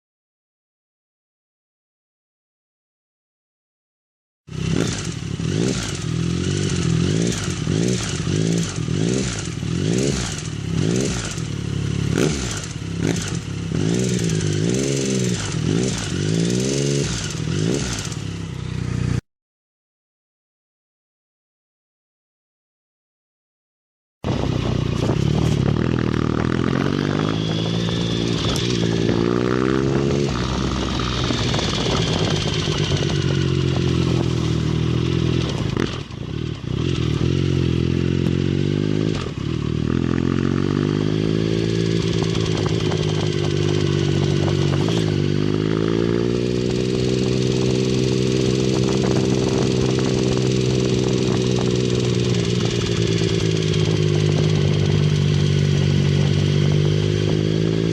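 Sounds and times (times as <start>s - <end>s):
motorcycle engine revving: 4.5s - 19.2s, 24.2s - 57.9s.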